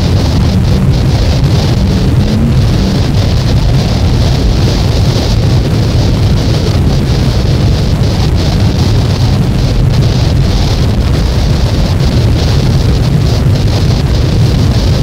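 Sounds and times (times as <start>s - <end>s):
dense noise music: 0.0s - 15.0s.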